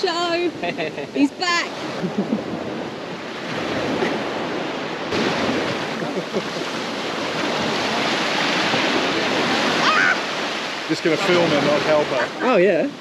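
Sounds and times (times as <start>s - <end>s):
small waves washing onto sand: 0.0s - 13.0s.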